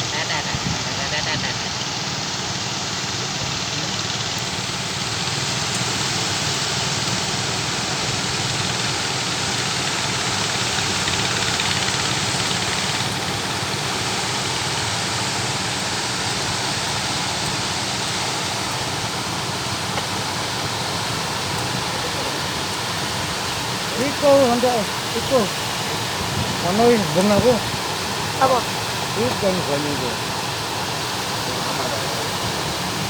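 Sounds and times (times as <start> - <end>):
boat engine running: 0.0 - 33.0
rush of wind and water: 0.0 - 33.0.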